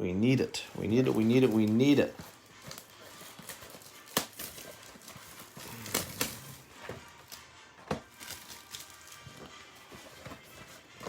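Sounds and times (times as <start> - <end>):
card pack rustling: 0.6 - 11.0.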